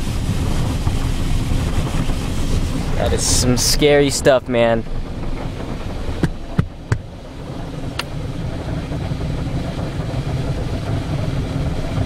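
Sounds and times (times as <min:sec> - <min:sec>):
car wash machinery rumble: 0:00.0 - 0:12.0.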